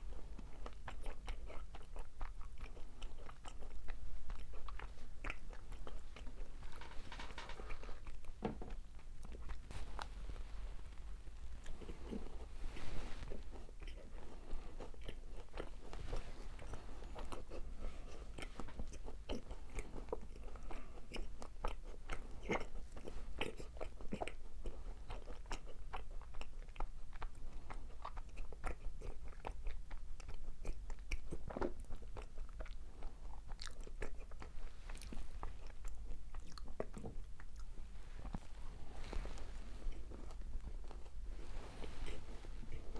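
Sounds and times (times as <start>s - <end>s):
crunchy chewing: 0.0s - 42.9s.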